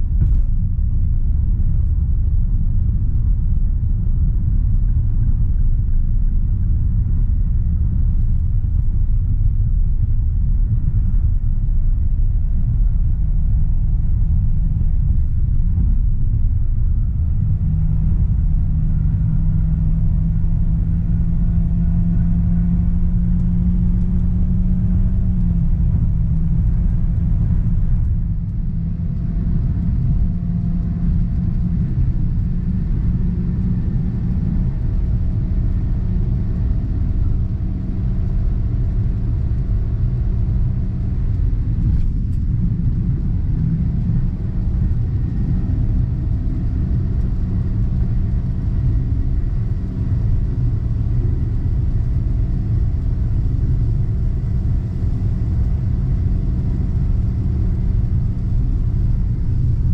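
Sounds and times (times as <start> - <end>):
car engine hum: 0.0 - 59.9
road rumble inside car: 0.0 - 59.9.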